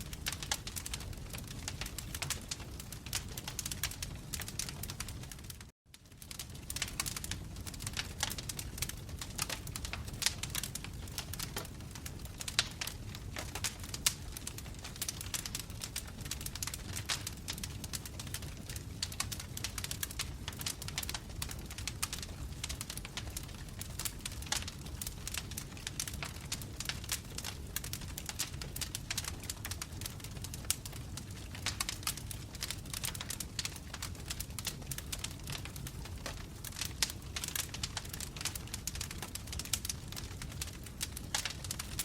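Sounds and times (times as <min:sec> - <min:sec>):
fire low rumble: 0:00.0 - 0:42.0
logs crackling and popping: 0:00.0 - 0:42.0.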